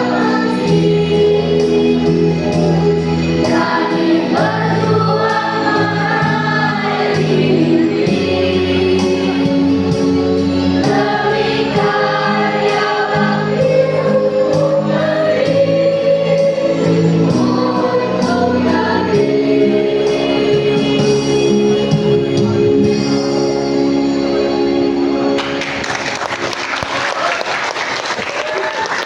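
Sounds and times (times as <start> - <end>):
choir singing chords: 0.0 - 25.6.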